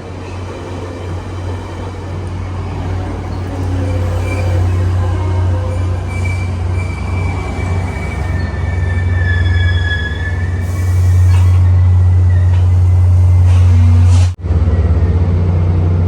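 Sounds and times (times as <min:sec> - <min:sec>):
train rumble: 0:00.0 - 0:16.0
train wheels squealing on rails: 0:00.2 - 0:15.1.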